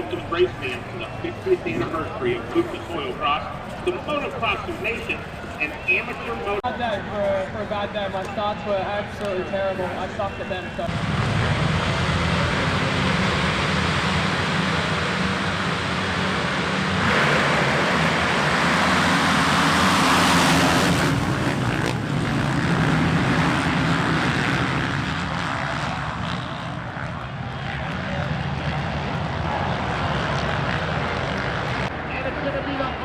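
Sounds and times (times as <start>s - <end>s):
motocross bike engines: 0.0s - 33.0s.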